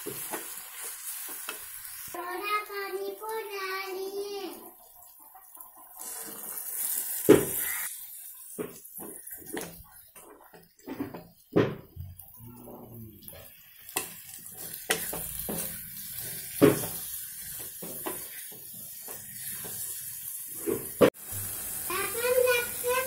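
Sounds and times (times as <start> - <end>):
vegetables sizzling: 0.0 - 23.0.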